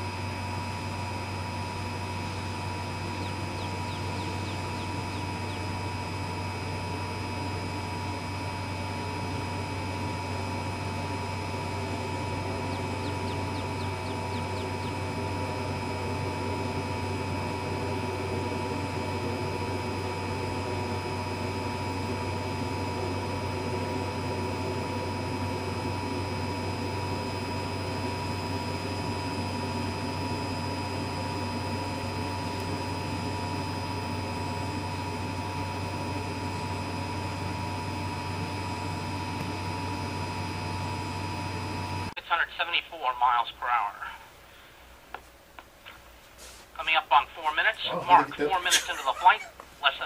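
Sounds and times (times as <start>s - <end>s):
low hum: 0.0s - 42.2s
high whine: 0.0s - 44.4s.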